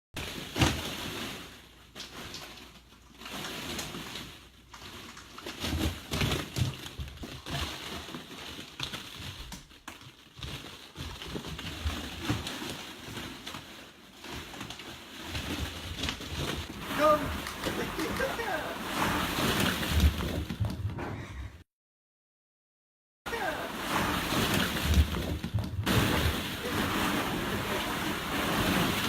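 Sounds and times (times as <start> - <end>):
balls rustling and clattering: 0.2 - 21.2, 23.7 - 29.0.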